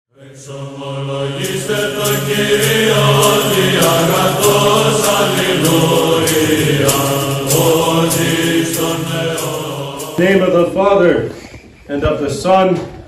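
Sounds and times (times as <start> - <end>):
chanting voices: 0.1 - 12.9
steady low drone: 0.2 - 10.6.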